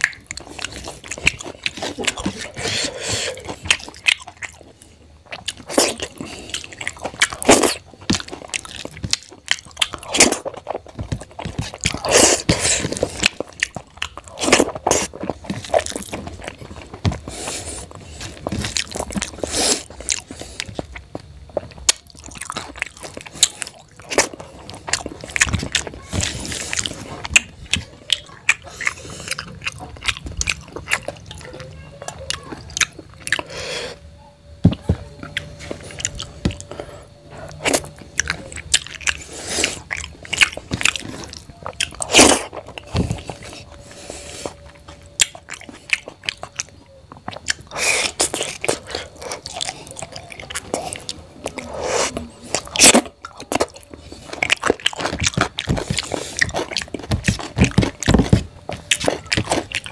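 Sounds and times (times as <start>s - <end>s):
chewing and lip smacking: 0.0s - 33.5s, 34.7s - 59.9s.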